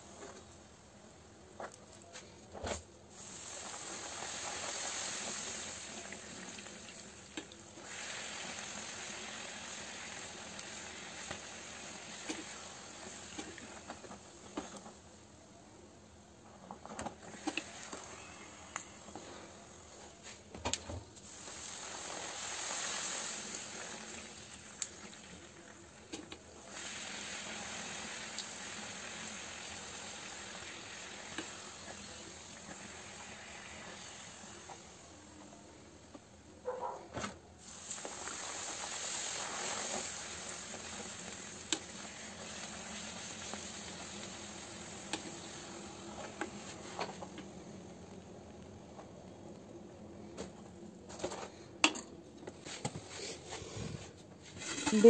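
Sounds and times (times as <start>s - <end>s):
deep-frying sizzle in oil: 2.6s - 36.6s, 37.2s - 50.6s.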